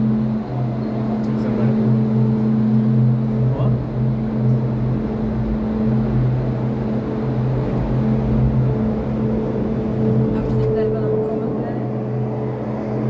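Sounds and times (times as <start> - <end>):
cable car cabin hum and rumble: 0.0 - 13.0.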